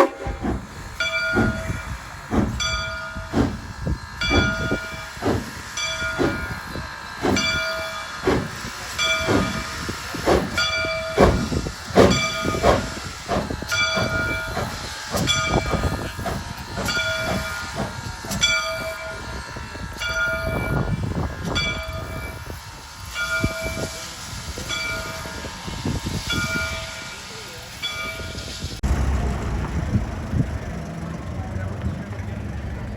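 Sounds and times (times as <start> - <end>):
hissing steam: 0.0 - 28.8
steam locomotive exhaust chuffs: 0.0 - 32.9.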